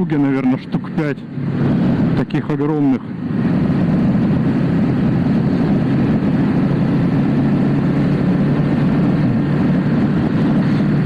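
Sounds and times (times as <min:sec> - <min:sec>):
wind and road noise: 0:00.0 - 0:11.0
motorcycle engine cruising: 0:00.8 - 0:02.2, 0:03.0 - 0:11.0.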